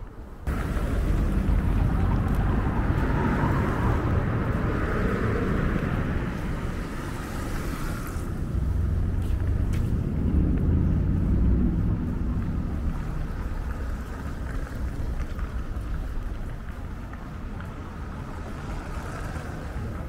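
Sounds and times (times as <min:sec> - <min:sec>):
traffic rumble: 0:00.0 - 0:20.0
wind on microphone: 0:00.5 - 0:20.0.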